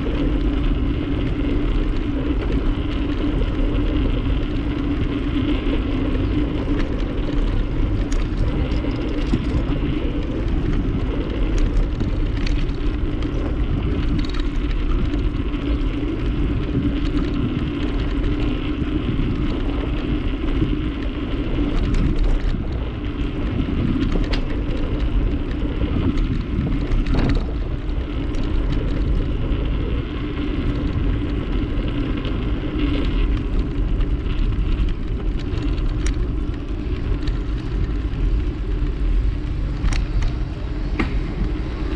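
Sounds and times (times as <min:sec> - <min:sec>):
bicycle riding rumble: 0:00.0 - 0:41.9
bike ticks and rattles: 0:00.0 - 0:41.9
tyre noise: 0:00.0 - 0:41.9
wind on microphone: 0:00.0 - 0:41.9.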